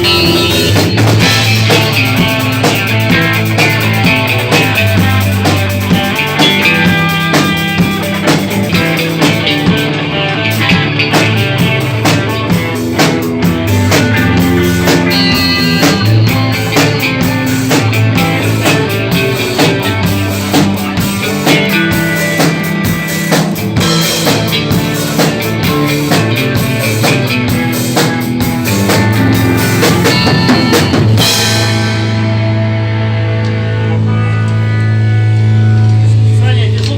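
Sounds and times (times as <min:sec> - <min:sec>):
drum kit beat: 0:00.0 - 0:36.1
bass guitar: 0:00.0 - 0:36.9
electric guitar: 0:00.0 - 0:36.9.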